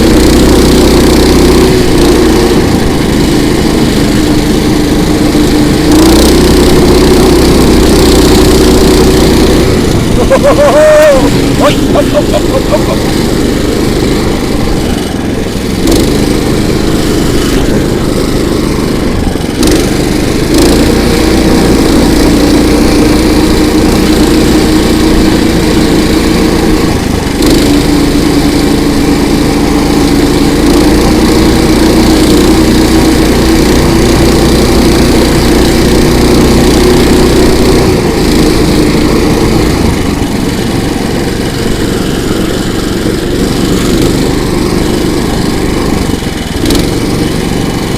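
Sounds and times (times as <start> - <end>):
small petrol engine running: 0.0 - 47.9.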